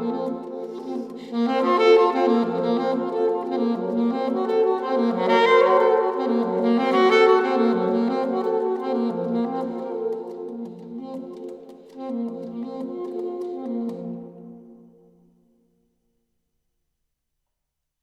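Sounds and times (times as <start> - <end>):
saxophone playing held notes: 0.0 - 15.0.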